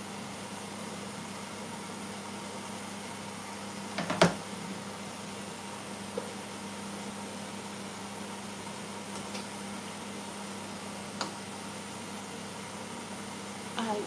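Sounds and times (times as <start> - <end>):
extractor fan humming: 0.0 - 14.0.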